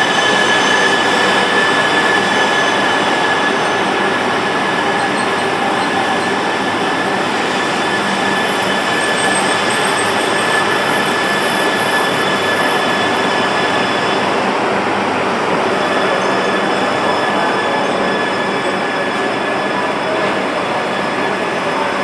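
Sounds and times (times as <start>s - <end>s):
train running past: 0.0s - 22.0s.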